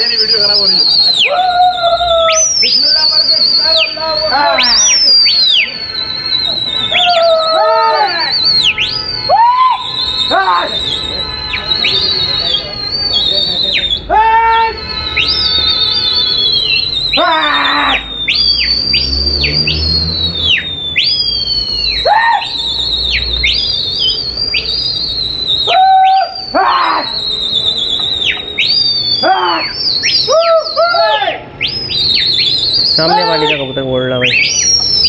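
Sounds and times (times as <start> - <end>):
shrill human whistling: 0.0 - 35.0.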